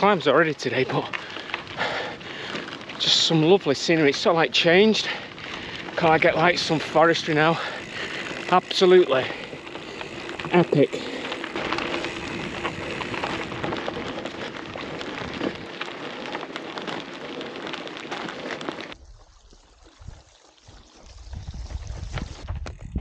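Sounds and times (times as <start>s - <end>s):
bike frame rattling: 0.0s - 19.0s
bike tyres crunching on gravel: 0.0s - 23.0s.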